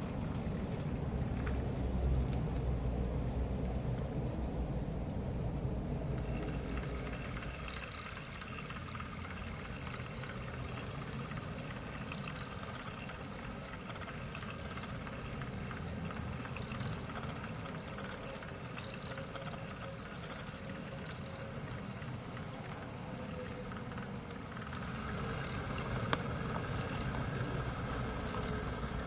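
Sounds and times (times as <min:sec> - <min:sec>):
continuous steam hiss: 0:00.0 - 0:29.0
light irregular ticking: 0:00.0 - 0:29.0
low engine rumble: 0:00.0 - 0:29.0.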